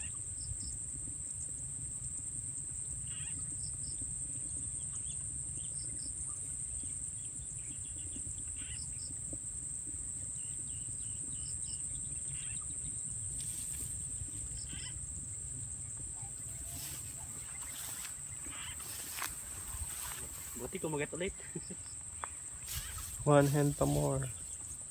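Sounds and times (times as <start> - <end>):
insects droning: 0.0 - 24.9.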